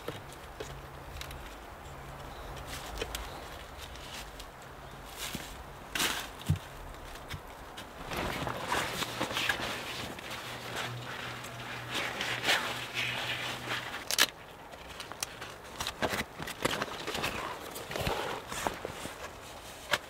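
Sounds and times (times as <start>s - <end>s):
tarp rustling and crinkling: 2.6s - 20.0s.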